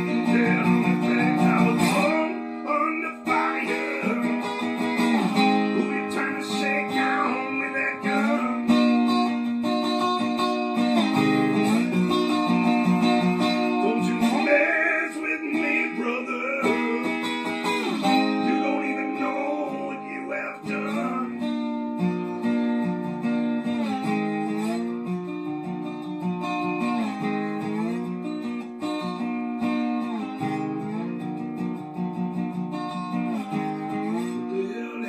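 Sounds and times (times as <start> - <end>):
slide guitar playing: 0.0 - 35.0.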